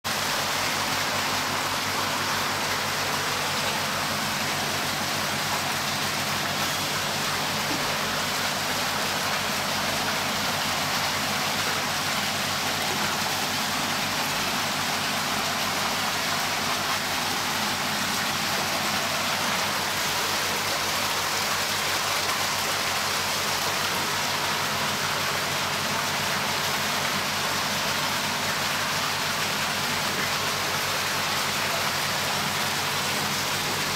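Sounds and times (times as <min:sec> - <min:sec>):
rushing water hiss: 0:00.1 - 0:33.9.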